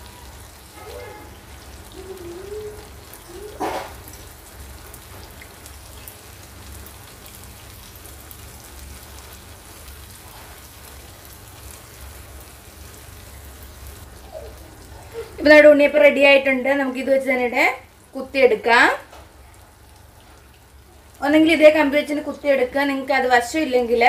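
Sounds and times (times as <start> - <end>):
deep-frying sizzle with crackling: 0.0 - 24.0.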